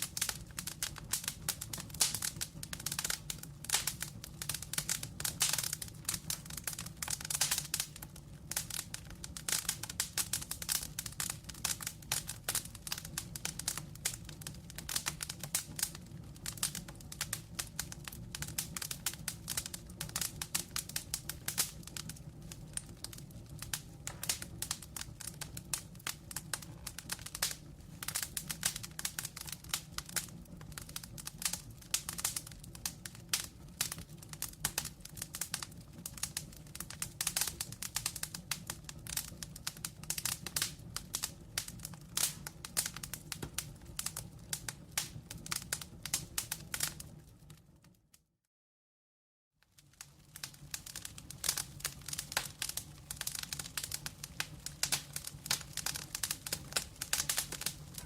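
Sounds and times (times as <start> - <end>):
logs crackling and popping: 0.0 - 48.0, 49.7 - 58.0
low rumble of flame: 0.0 - 48.1, 49.7 - 58.0.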